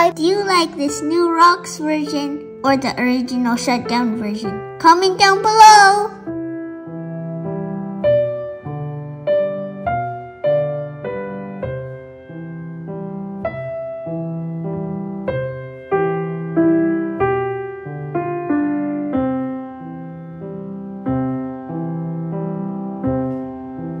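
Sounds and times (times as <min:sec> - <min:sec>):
piano notes and chords: 0:00.0 - 0:24.0.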